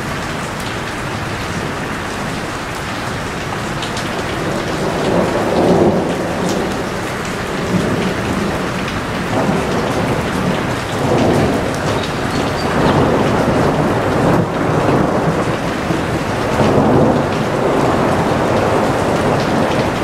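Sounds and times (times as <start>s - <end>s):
heavy rain falling: 0.0s - 20.0s
thunder rumbling: 3.1s - 20.0s.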